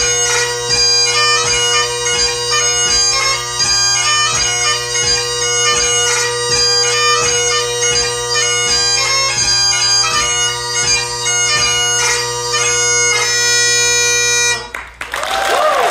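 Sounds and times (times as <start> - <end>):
bagpipe playing: 0.0 - 15.0.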